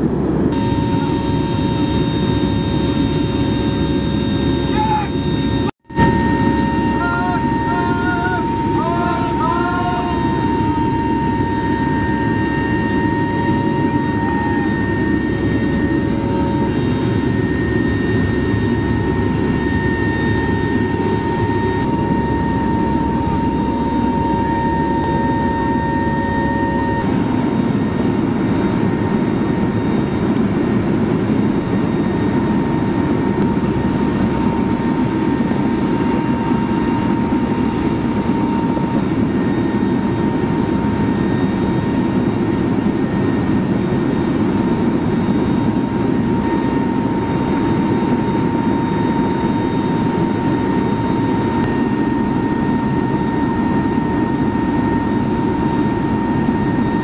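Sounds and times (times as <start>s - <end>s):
plane engines droning: 0.0s - 57.0s
thin steady whine: 0.0s - 57.0s.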